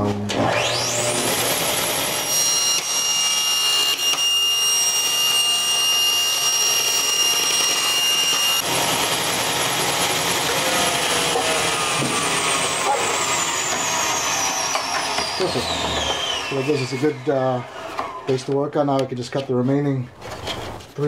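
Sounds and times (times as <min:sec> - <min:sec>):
table saw running: 0:00.3 - 0:18.7
saw cutting plastic whine: 0:00.3 - 0:19.5.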